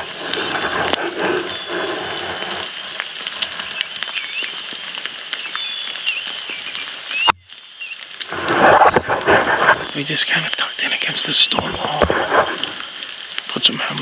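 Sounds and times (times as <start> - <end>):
animals chirping: 0.0 - 14.0
rain pattering: 0.0 - 14.0.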